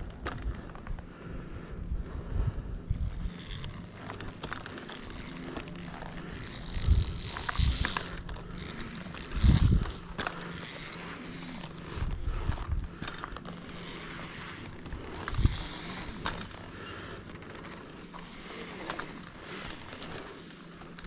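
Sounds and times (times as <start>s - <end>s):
climbing gear clinking: 0.0s - 21.0s.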